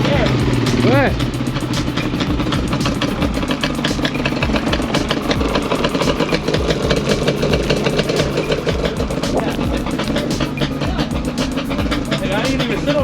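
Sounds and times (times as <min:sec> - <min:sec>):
quad engine idling: 0:00.0 - 0:13.0.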